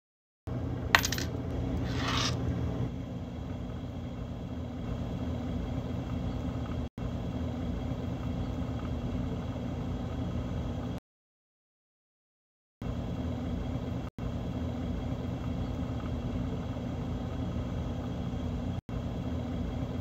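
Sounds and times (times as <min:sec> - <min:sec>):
constant hum: 0:00.5 - 0:11.0, 0:12.8 - 0:20.0.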